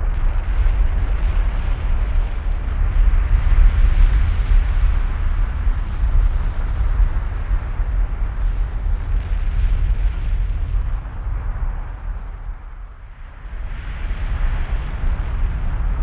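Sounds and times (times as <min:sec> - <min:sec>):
lava fountain roaring: 0:00.0 - 0:16.0.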